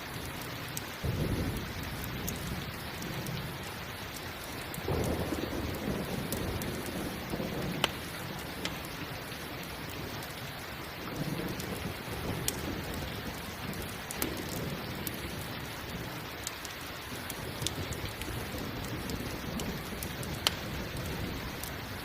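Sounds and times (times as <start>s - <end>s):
campfire popping: 0.0s - 22.0s
steady rain: 0.0s - 22.0s
thunder rolling: 1.0s - 4.0s, 4.6s - 10.3s, 11.0s - 16.2s, 17.1s - 22.0s.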